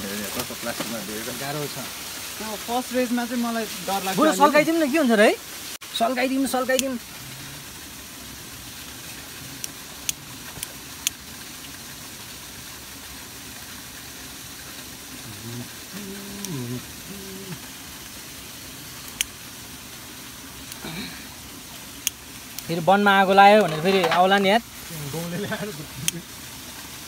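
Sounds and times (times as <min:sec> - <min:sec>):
steady low hiss: 0:00.0 - 0:27.0.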